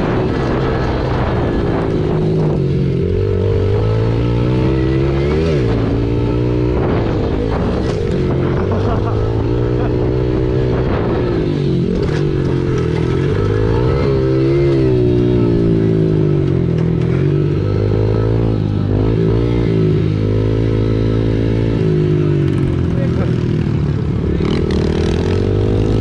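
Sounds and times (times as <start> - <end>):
small motorbike engine revving: 0.0 - 26.0.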